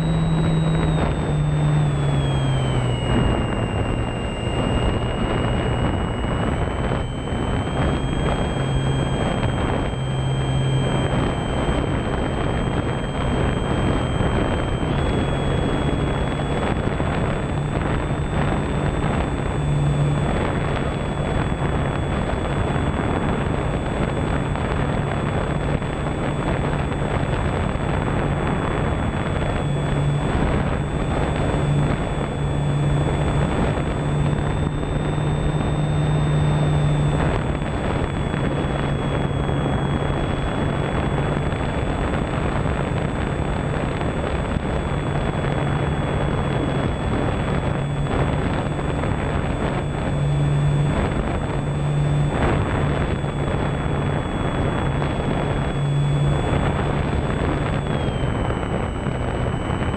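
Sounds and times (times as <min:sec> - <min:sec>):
high motor whine: 0:00.0 - 0:59.9
propeller hum: 0:00.0 - 0:59.9
wind rush on microphone: 0:00.0 - 0:59.9.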